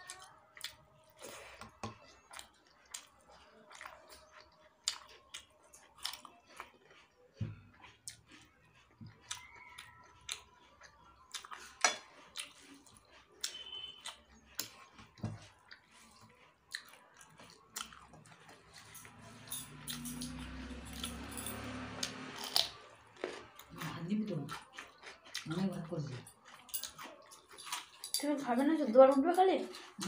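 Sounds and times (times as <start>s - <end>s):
person chewing and eating: 0.0s - 30.0s.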